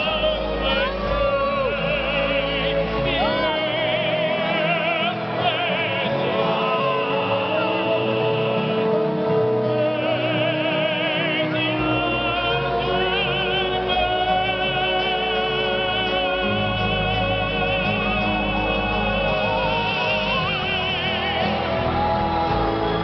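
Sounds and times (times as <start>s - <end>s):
soloist singing with vibrato: 0.0s - 23.0s
choir singing held chords: 1.8s - 23.0s.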